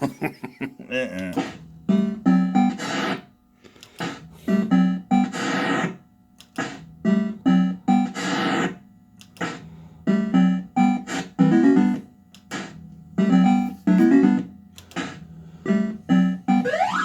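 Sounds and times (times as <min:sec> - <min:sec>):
fruit machine electronic notes: 0:01.4 - 0:03.3, 0:04.0 - 0:08.8, 0:09.4 - 0:17.0.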